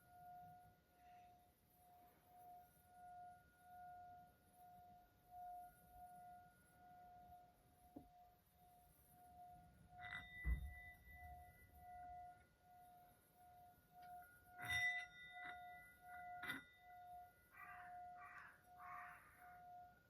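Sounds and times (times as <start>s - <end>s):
soft pulsing steady note: 0.0s - 20.0s.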